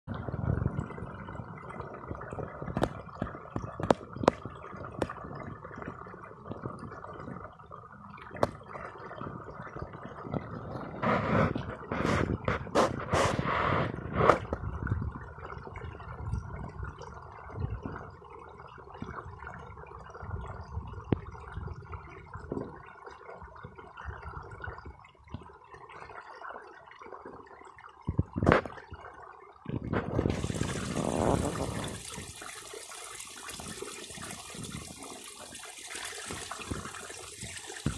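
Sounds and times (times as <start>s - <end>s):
water flowing and gurgling: 0.0s - 37.9s.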